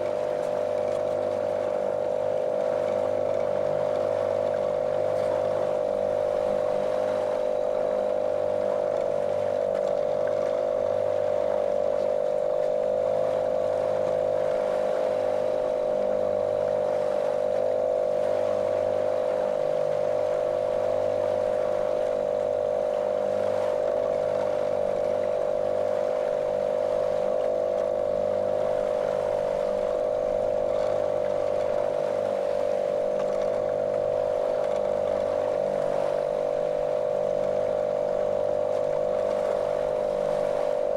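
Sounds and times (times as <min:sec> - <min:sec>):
motorboat motor running: 0:00.0 - 0:40.9.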